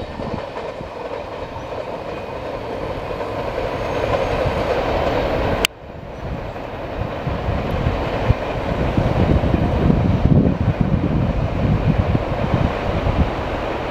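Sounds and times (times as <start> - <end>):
freight train rumbling: 0.0 - 13.9.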